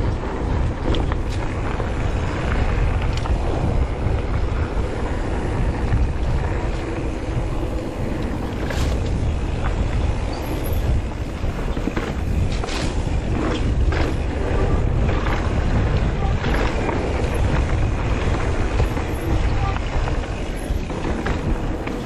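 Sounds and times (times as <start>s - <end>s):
bike clicks and rattles: 0.0s - 22.0s
tyres rumbling on dirt trail: 0.0s - 22.0s
wind buffeting microphone: 0.0s - 22.0s.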